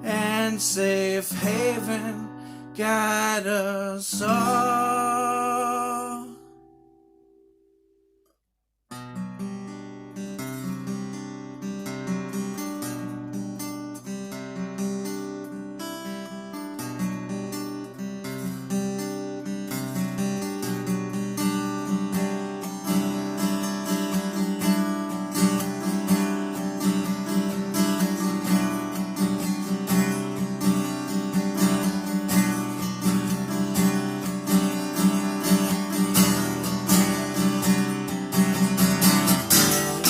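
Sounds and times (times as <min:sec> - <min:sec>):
acoustic guitar strumming: 0:00.0 - 0:07.8, 0:08.9 - 0:40.0.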